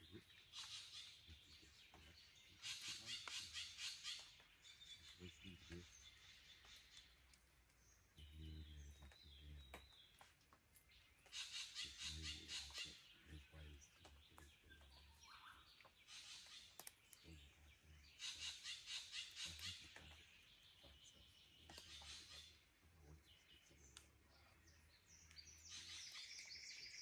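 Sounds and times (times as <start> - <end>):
birds dawn chorus: 0.0 - 27.0
low repeated bird notes: 0.0 - 27.0.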